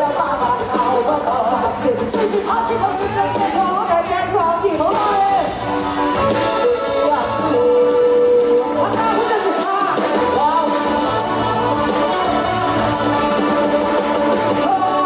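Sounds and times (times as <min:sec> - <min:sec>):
woman singing: 0:00.0 - 0:05.6, 0:06.4 - 0:15.0
pop band playing: 0:00.0 - 0:15.0.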